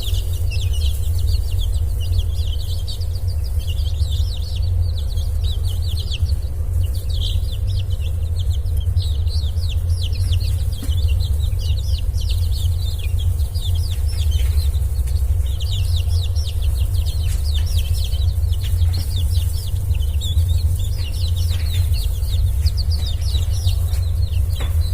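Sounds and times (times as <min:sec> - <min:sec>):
chicks cheeping: 0:00.0 - 0:24.9
steady low rumble: 0:00.0 - 0:24.9.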